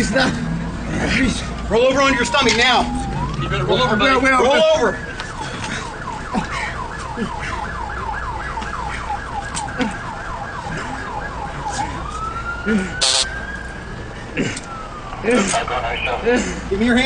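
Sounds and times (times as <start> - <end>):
emergency siren: 0.0 - 17.0.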